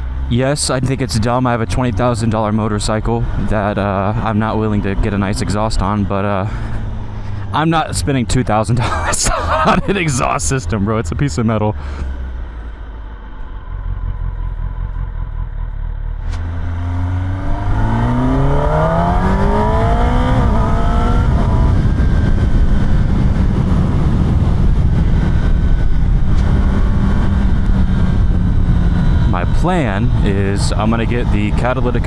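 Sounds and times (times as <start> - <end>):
motorcycle engine idling and revving: 0.0 - 7.5, 11.7 - 32.0.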